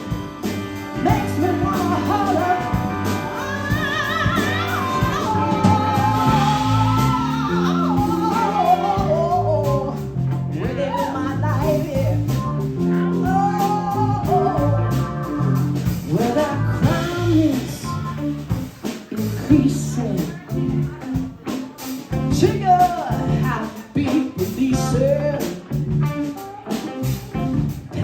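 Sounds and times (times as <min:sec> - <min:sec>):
live soul band playing: 0:00.0 - 0:28.0
wordless singing: 0:01.0 - 0:25.6.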